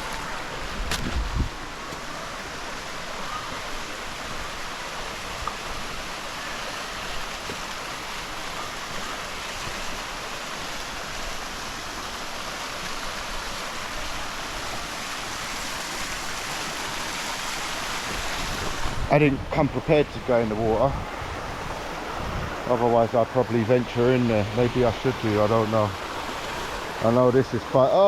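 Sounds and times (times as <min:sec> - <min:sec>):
waterfall rushing: 0:00.0 - 0:20.0, 0:21.0 - 0:28.0.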